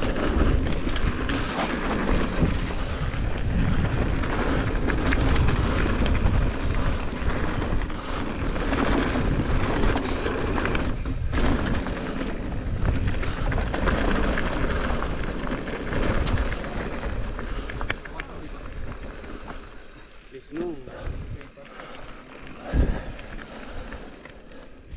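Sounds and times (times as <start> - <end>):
wind on microphone: 0.0 - 19.6, 20.9 - 21.5, 22.6 - 24.1
bike tyres rolling over gravel: 0.0 - 24.9
stones and bike parts rattling: 0.0 - 24.9.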